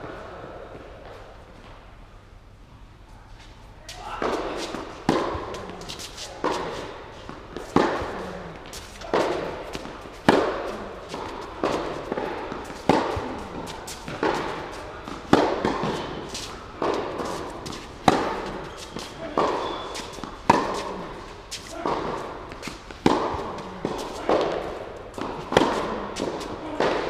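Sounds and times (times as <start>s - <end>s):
tennis ball struck by rackets: 4.1s - 27.0s
tennis ball bouncing on court: 4.2s - 27.0s.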